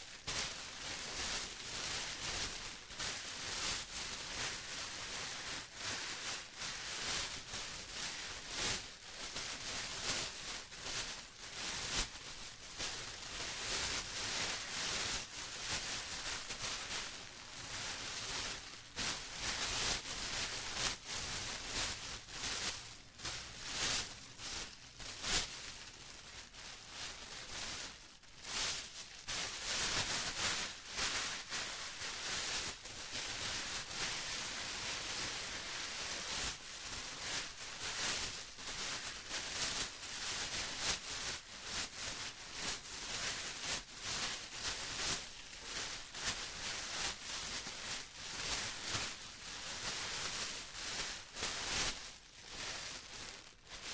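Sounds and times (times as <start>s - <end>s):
plastic crinkling: 0.1s - 53.9s.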